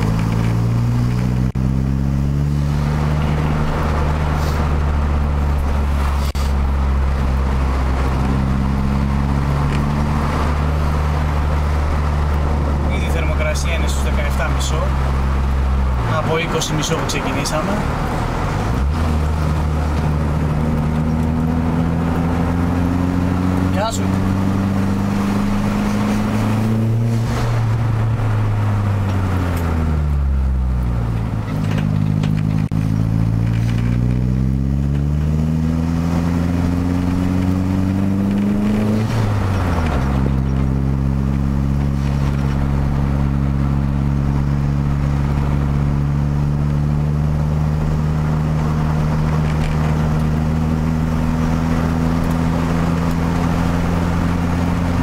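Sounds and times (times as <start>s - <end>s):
car engine revving inside cabin: 0.0s - 55.0s.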